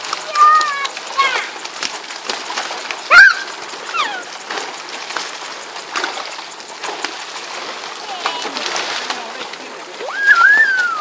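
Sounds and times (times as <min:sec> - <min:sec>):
fish splashing and flapping: 0:00.0 - 0:11.0.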